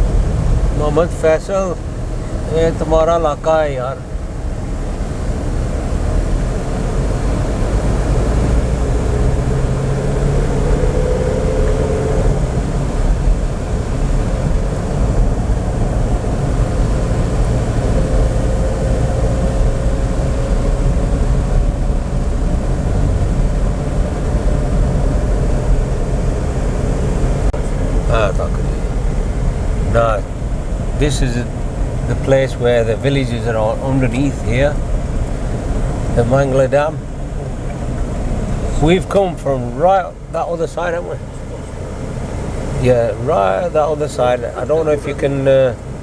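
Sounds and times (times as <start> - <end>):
car engine: 0.0 - 46.0
road noise: 0.0 - 46.0.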